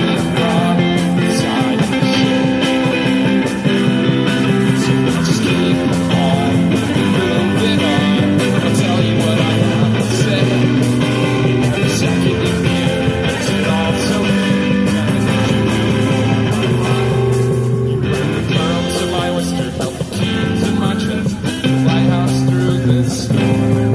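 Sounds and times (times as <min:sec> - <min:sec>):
strummed guitar: 0:00.0 - 0:23.9.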